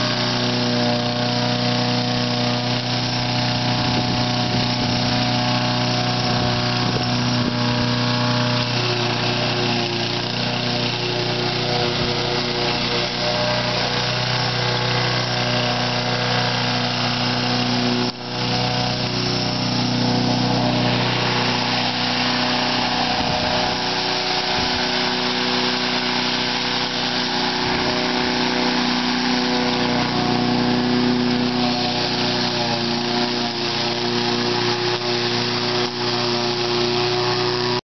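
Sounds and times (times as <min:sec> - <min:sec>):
lawn mower engine running: 0:00.0 - 0:37.8.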